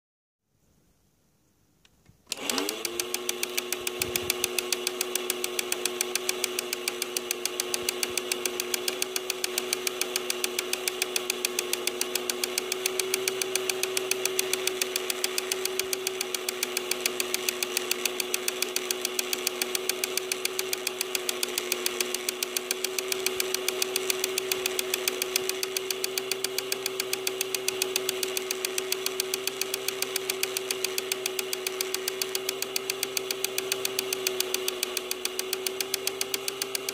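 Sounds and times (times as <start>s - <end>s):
projector motor whining and humming: 2.3s - 36.9s.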